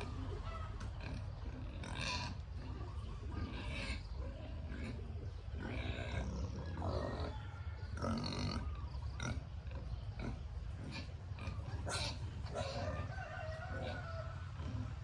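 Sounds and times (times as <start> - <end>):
pigs calling: 0.0 - 15.0.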